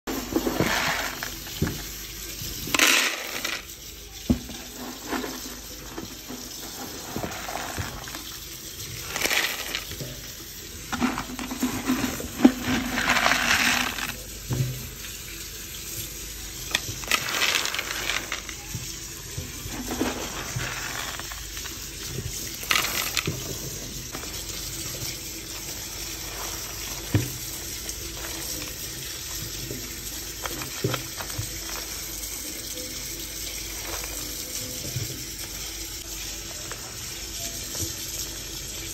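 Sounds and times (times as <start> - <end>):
dried beans pouring into plastic bowl: 0.1 - 14.6, 16.0 - 35.6.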